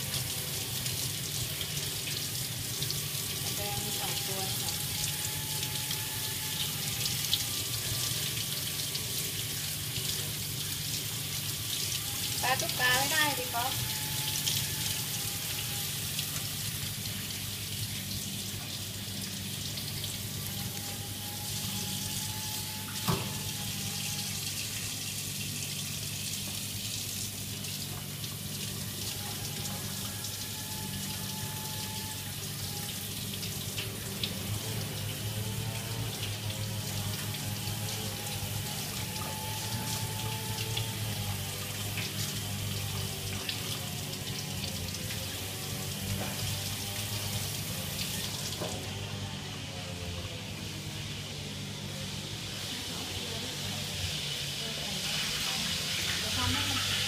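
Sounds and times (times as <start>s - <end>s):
tap water running into sink: 0.0s - 49.6s, 55.5s - 57.0s.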